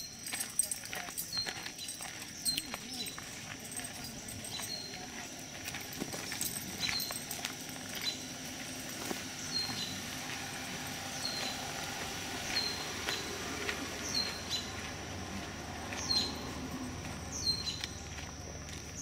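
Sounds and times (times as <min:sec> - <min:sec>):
footsteps on gravel: 0:00.0 - 0:19.0
high insect drone: 0:00.0 - 0:19.0.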